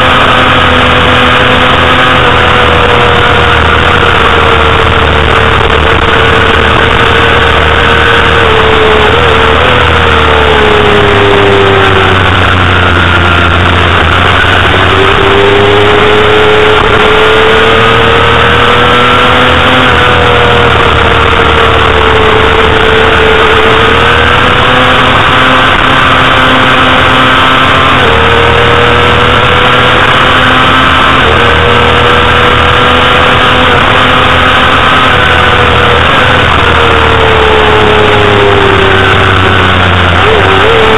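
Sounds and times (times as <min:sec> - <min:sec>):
motorcycle engine at high revs: 0:00.0 - 0:40.9
wind rush on microphone: 0:00.0 - 0:40.9.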